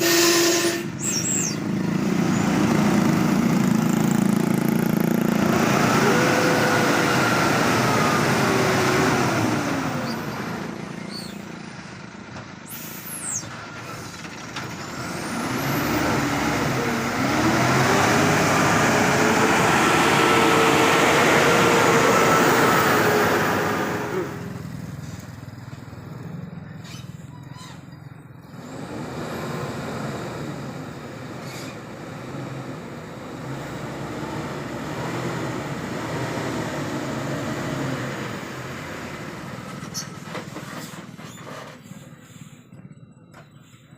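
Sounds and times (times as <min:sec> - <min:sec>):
truck diesel engine revving: 0:00.0 - 0:12.3, 0:13.0 - 0:25.0, 0:28.4 - 0:40.6.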